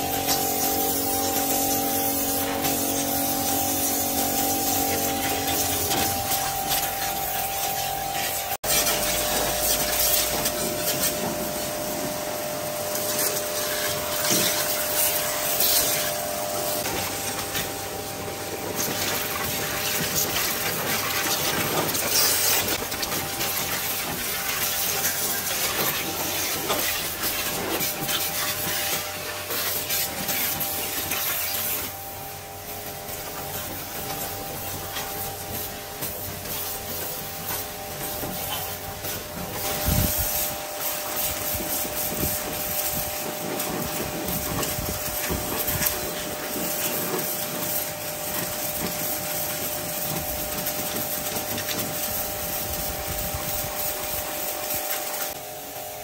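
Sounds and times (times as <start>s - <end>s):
pressure washer spraying metal: 0.0s - 56.0s.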